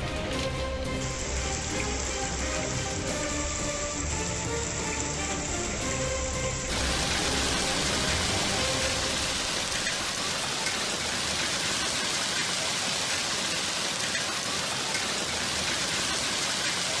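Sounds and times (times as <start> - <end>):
heavy rain and hail on pavement: 0.0 - 17.0.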